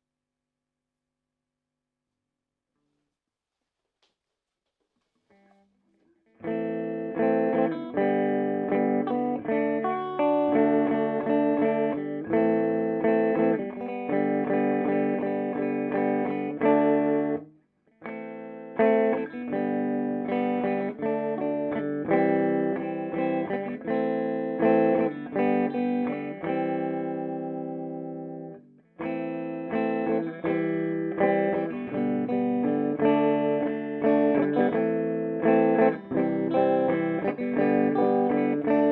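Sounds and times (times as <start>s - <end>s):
clean electric guitar: 5.3s - 38.9s.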